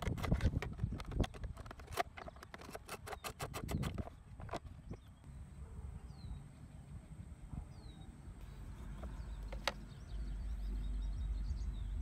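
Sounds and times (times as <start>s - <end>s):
wind rumble on microphone: 0.0s - 2.0s, 3.4s - 12.0s
bird chirps: 2.2s - 12.0s.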